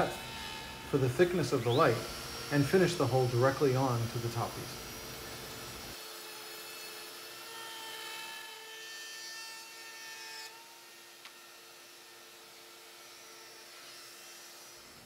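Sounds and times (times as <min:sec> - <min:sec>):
router whining: 0:00.0 - 0:15.0.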